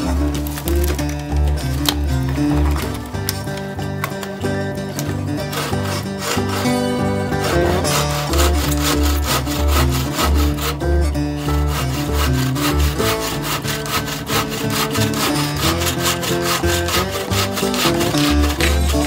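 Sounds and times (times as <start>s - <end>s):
background music: 0.0s - 19.0s
bow saw cutting log: 0.0s - 19.0s.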